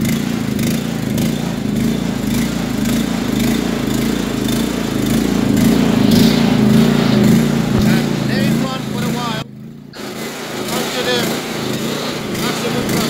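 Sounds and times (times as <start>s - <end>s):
petrol engine running steadily: 0.0s - 13.0s.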